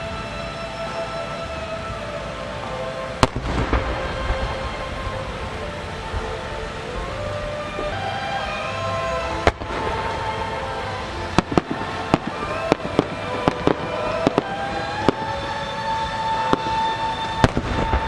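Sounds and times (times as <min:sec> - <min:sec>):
steady held tones: 0:00.0 - 0:18.0
fireworks bangs: 0:02.8 - 0:18.0.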